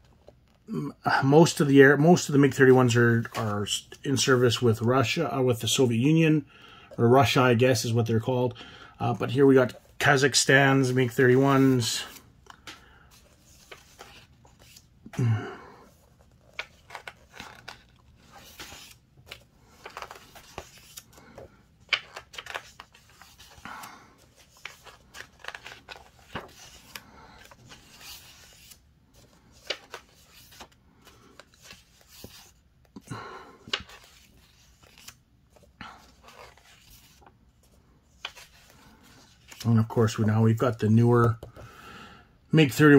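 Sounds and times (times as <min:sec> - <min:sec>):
book pages turning: 0:00.0 - 0:04.8, 0:09.2 - 0:41.6.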